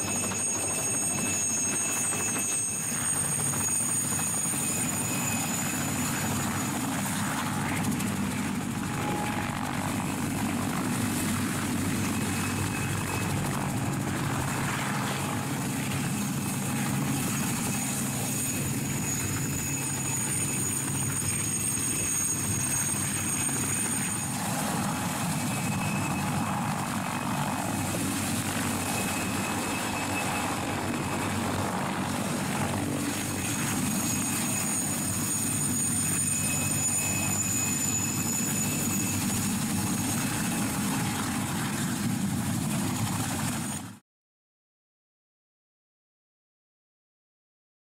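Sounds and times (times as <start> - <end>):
turbine engine whine: 0.0 - 43.9
helicopter rotor beat: 0.0 - 44.0.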